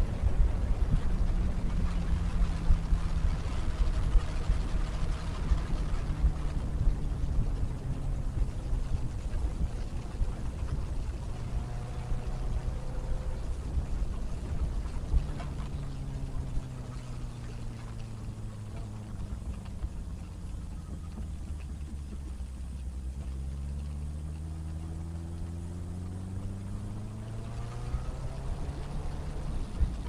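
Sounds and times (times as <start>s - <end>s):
motorcycle engine: 0.0s - 30.0s
wind rushing over microphone: 0.0s - 30.0s.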